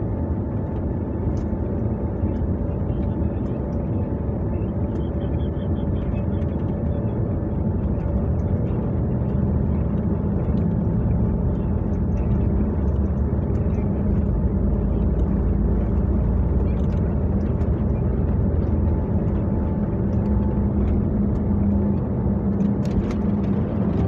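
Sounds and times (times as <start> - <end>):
airliner engines and wheels rumbling: 0.0 - 24.0.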